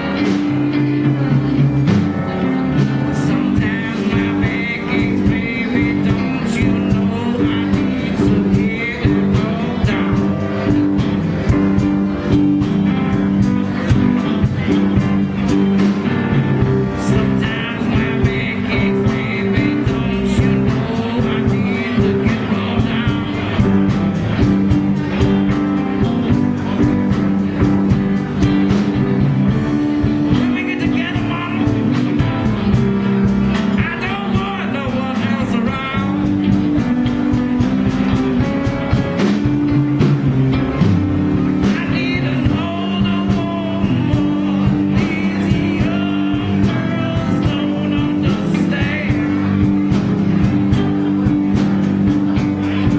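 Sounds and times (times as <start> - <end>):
bending electric guitar lead: 0.0 - 52.9
blues band playing: 0.0 - 52.9.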